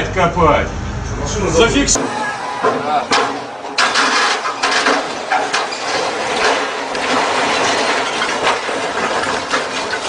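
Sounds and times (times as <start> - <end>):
crashing steel crane: 1.9 - 10.0.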